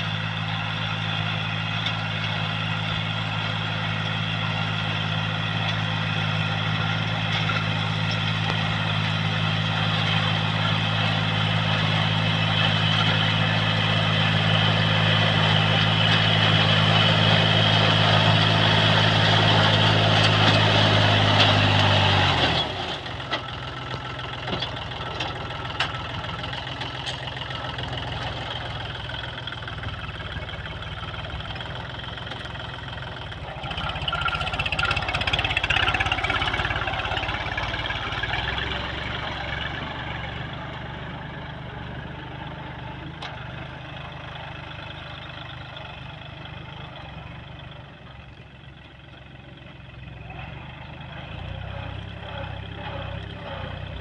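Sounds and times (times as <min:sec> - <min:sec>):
farm machinery engine running: 0:00.0 - 0:54.0.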